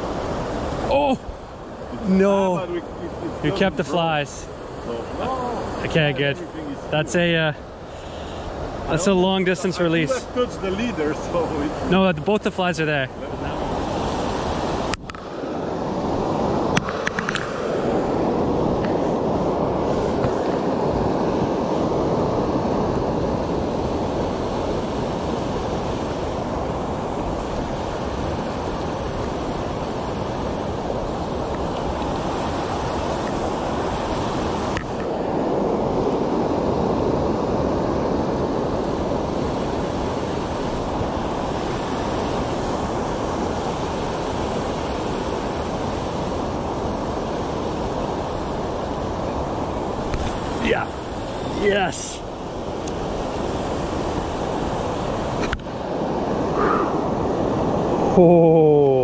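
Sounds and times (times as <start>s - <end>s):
river water over weir: 0.0s - 59.0s.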